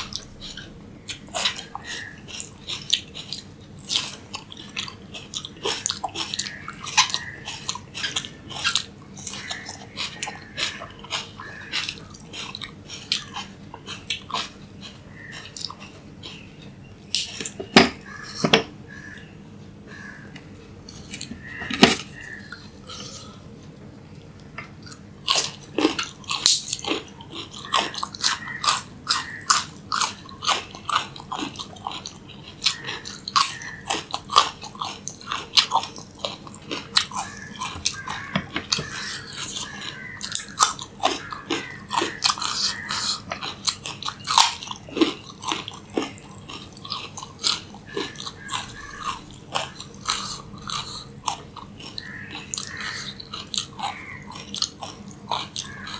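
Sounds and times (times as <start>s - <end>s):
carrot crunching chews: 0.0s - 18.4s, 24.2s - 55.9s.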